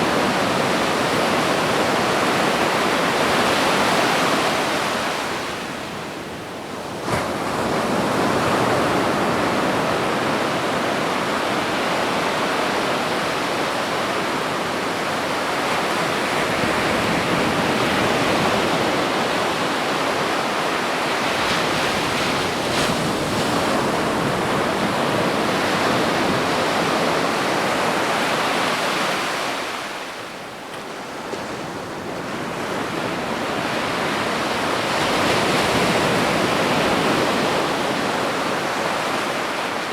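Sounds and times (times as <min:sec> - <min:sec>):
ocean waves on beach: 0:06.8 - 0:39.9.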